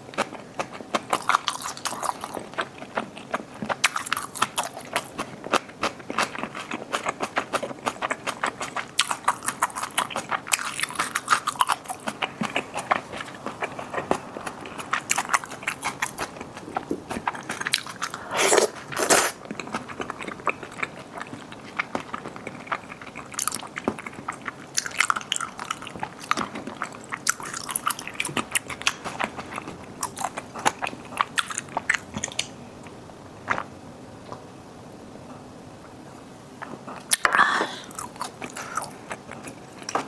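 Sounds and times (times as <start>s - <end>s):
person chewing crunchy food: 0.0s - 33.7s, 36.6s - 40.0s.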